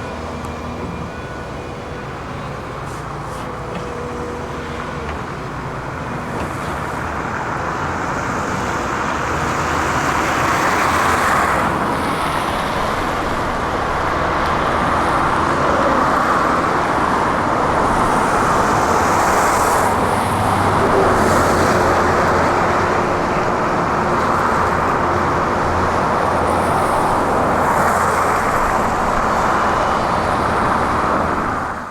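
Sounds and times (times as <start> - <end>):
diesel machinery running: 0.0 - 31.9.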